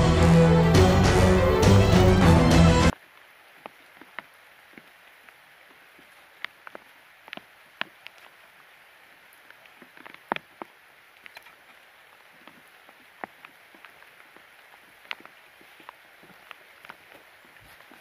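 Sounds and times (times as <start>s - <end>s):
rain hiss: 0.0s - 18.0s
raindrops ticking: 2.9s - 18.0s.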